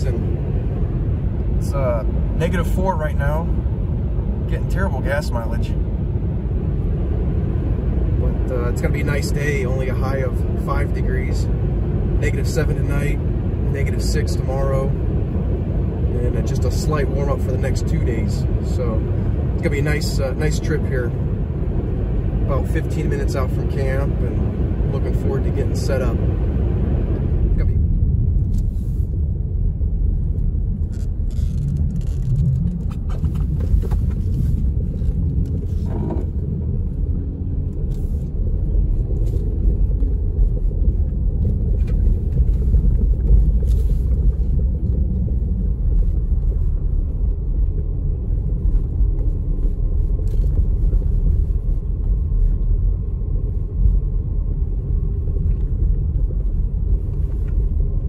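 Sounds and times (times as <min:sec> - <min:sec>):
road and engine noise inside car: 0:00.0 - 0:58.0.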